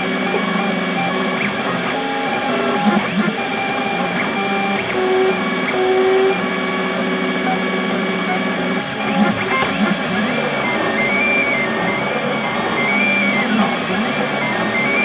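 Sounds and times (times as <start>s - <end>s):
printer stepper motors whining: 0.0s - 15.0s.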